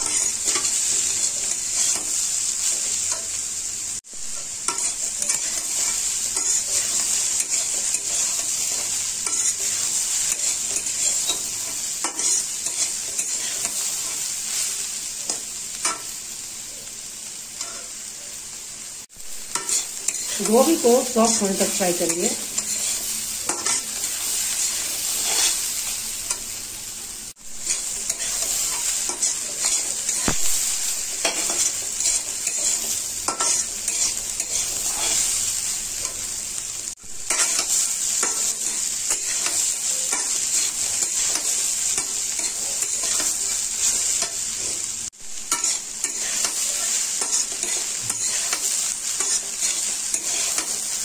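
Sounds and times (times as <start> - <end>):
metal spatula scraping pan: 0.0 - 2.2, 4.7 - 14.3, 19.5 - 26.4, 27.6 - 36.2, 37.3 - 51.0
vegetables sizzling in oil: 0.0 - 51.0.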